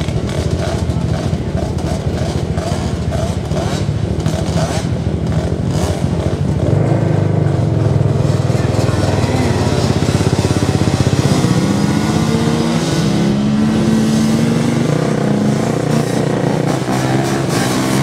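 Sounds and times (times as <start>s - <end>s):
quad engines revving: 0.0s - 18.0s.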